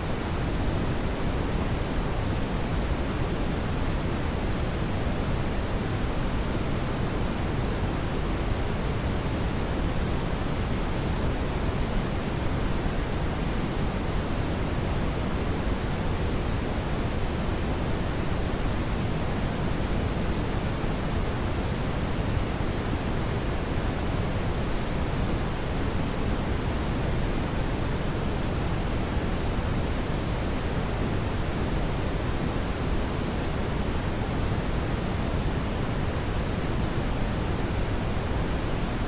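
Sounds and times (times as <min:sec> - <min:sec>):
brown noise rumbling hiss: 0:00.0 - 0:39.0.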